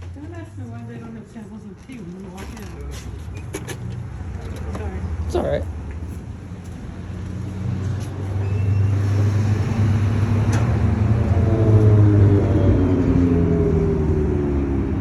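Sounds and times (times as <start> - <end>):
motor vehicle rumble: 0.0 - 15.0.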